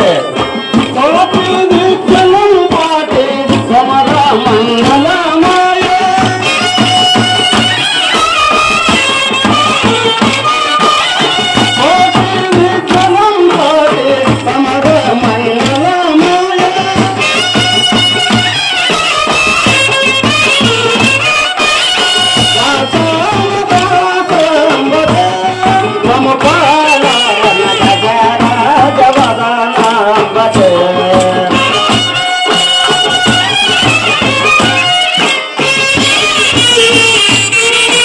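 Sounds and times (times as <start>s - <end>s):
folk music melody: 0.0s - 38.0s
pulsing drum beat: 0.0s - 38.0s.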